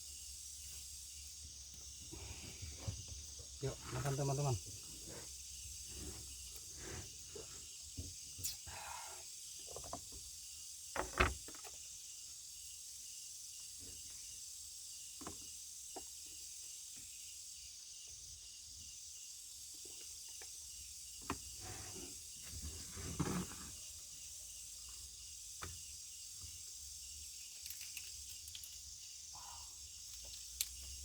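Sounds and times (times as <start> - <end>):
insect chorus hissing: 0.0 - 31.0.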